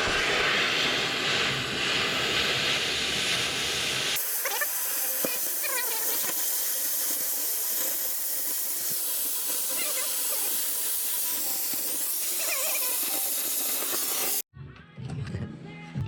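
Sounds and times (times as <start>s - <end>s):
cutting torch hissing: 0.0s - 14.4s.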